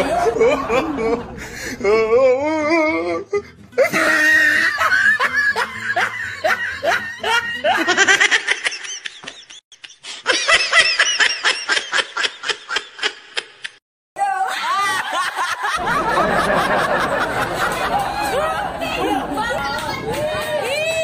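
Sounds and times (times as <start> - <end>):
people laughing hard: 0.0 - 2.0, 3.8 - 13.8, 14.4 - 19.8.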